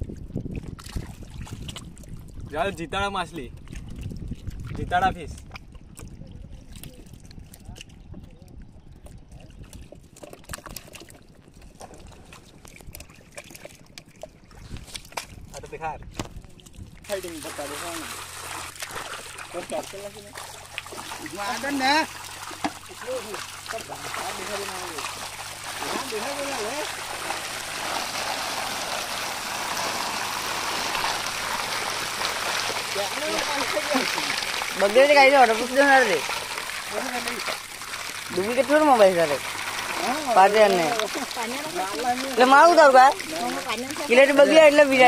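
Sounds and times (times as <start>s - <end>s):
fish thrashing in shallow water: 0.1s - 2.5s, 3.5s - 45.0s
wet squelches in mud: 3.5s - 44.3s.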